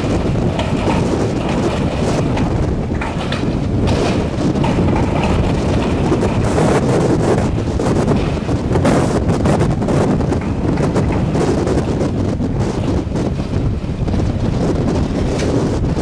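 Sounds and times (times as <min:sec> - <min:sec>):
short clatters: 0:00.0 - 0:16.0
wind gusts buffeting microphone: 0:00.0 - 0:16.0.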